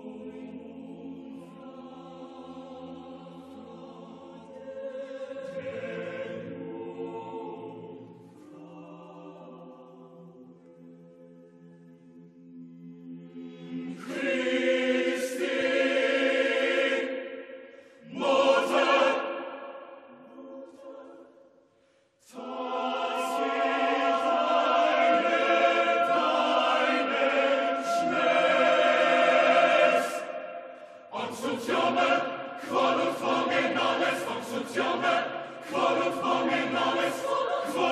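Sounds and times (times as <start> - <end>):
choir singing held chords: 0.0 - 11.1, 12.3 - 21.6, 22.2 - 37.9.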